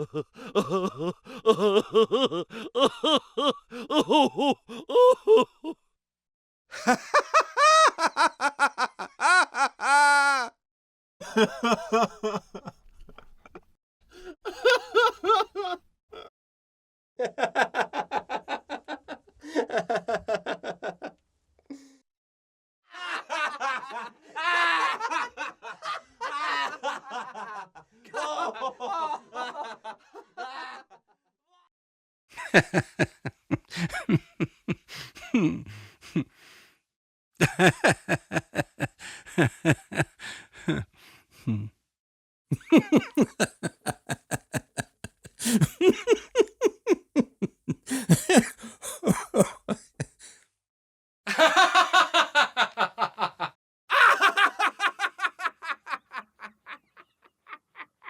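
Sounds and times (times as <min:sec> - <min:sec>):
man laughing: 0:00.0 - 0:05.8, 0:06.7 - 0:10.6, 0:11.2 - 0:16.3, 0:17.2 - 0:21.1, 0:23.0 - 0:30.8, 0:32.4 - 0:36.3, 0:37.4 - 0:41.7, 0:42.5 - 0:50.4, 0:51.3 - 0:58.0.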